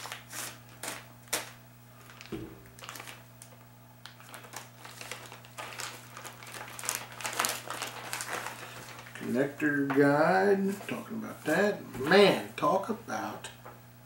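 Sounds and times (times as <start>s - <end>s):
paper and plastic packaging rustling: 0.0s - 12.3s.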